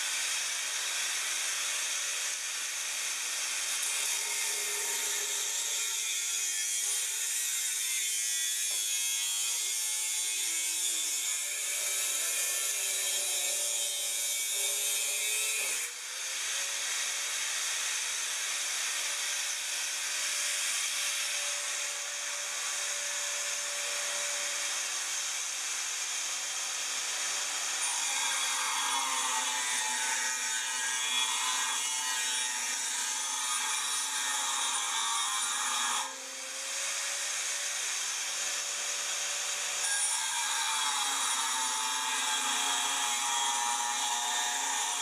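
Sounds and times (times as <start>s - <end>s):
angle grinder cutting metal pipe: 0.0s - 45.0s.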